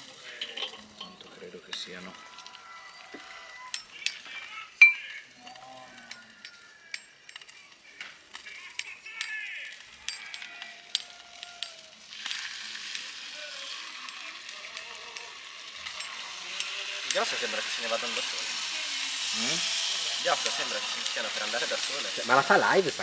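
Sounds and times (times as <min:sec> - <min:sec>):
ribs sizzling on grill: 0:00.0 - 0:23.0.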